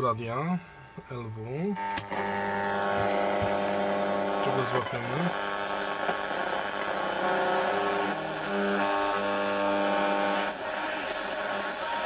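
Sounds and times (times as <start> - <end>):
radio interference droning hum: 0.0 - 12.0.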